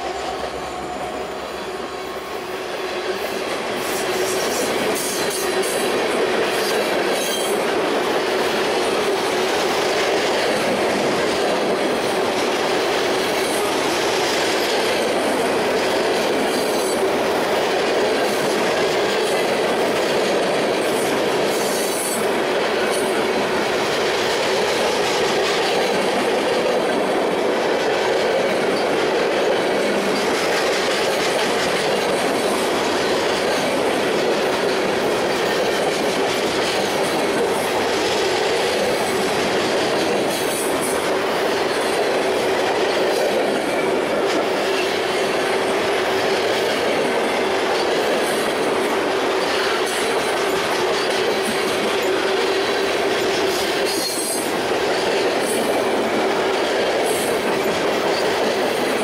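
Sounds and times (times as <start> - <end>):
freight train wheels clattering: 0.0 - 59.0.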